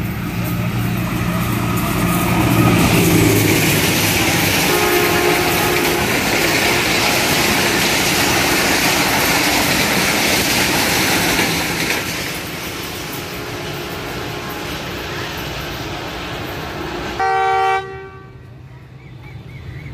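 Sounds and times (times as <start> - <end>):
train wheels on rails: 0.0 - 19.9.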